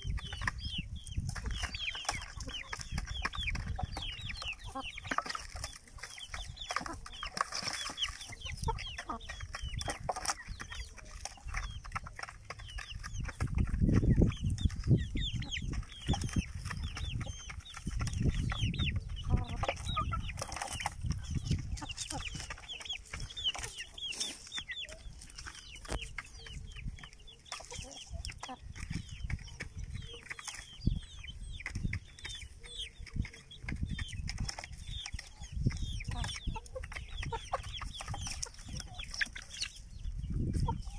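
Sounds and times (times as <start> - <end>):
chicks peeping: 0.0 - 40.9
hens clucking: 0.0 - 40.9.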